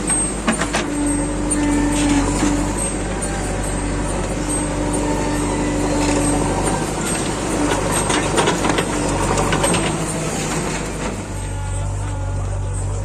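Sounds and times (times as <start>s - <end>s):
knocks and clatter: 0.0s - 11.5s
diesel engines running: 0.0s - 13.0s.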